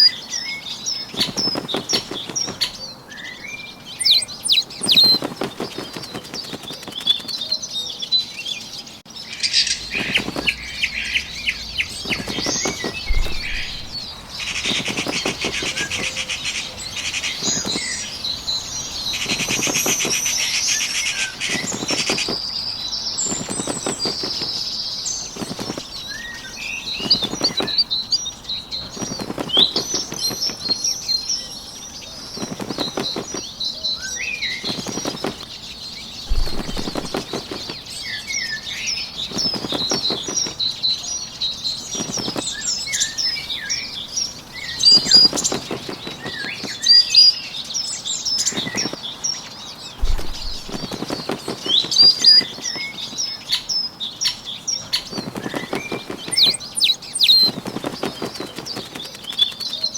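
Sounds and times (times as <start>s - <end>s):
songbird chirps and trills: 0.0s - 59.9s
small bird wings flapping: 0.8s - 3.0s, 4.0s - 7.8s, 9.6s - 47.4s, 48.0s - 53.8s, 54.8s - 59.9s.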